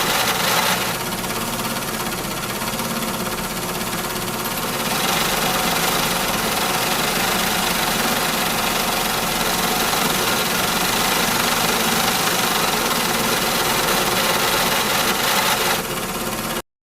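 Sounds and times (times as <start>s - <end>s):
factory machinery running: 0.0s - 2.5s, 3.2s - 16.0s.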